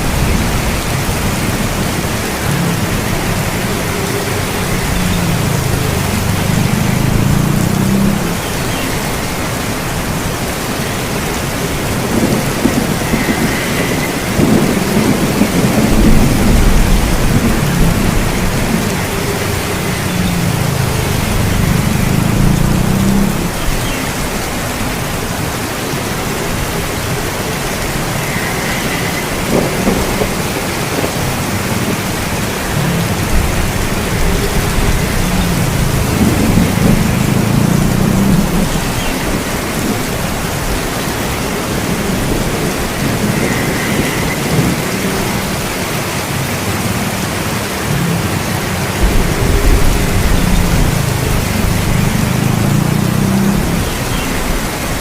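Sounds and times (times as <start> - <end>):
rolling thunder: 0.0 - 45.8, 49.0 - 55.0
heavy rain: 0.0 - 55.0.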